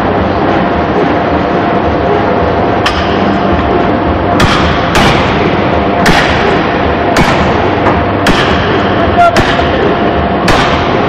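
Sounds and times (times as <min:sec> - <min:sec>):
machinery running: 0:00.0 - 0:11.0.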